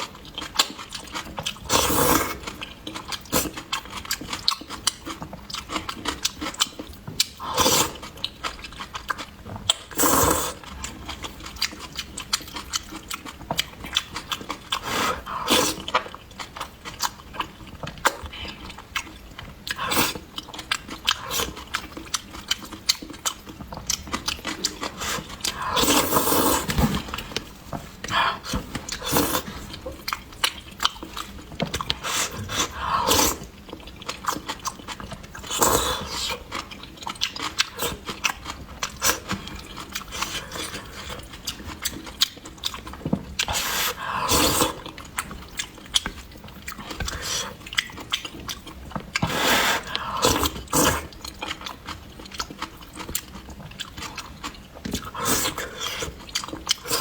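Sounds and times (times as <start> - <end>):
wet sticky chewing: 0.1 - 57.0.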